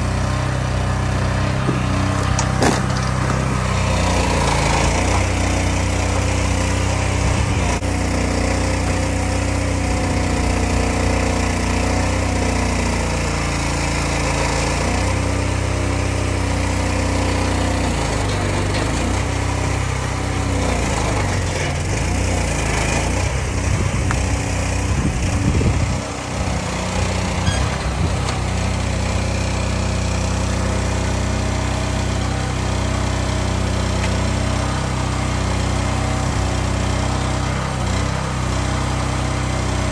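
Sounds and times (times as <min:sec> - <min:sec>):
log loader engine running: 0:00.0 - 0:39.9.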